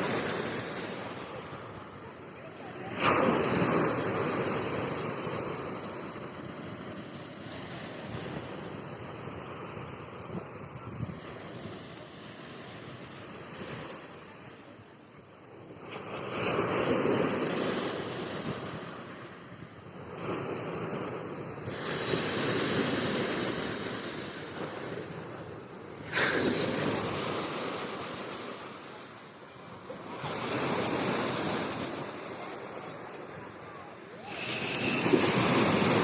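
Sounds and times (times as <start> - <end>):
waves crashing on a beach: 0.0 - 36.0.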